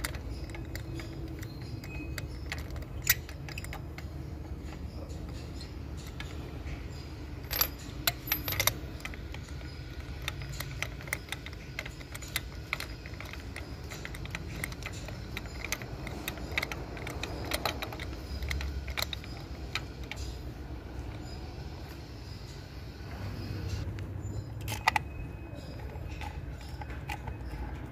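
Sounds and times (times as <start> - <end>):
metal hand tools clinking: 0.0 - 22.7, 23.7 - 27.9.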